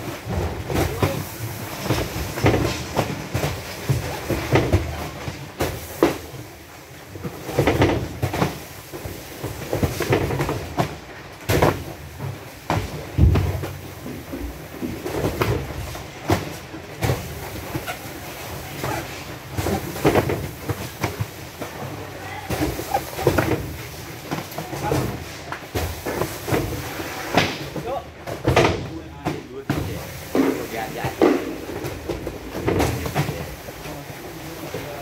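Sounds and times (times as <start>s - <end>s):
knocks thuds and clattering: 0.0s - 6.5s, 7.1s - 33.9s.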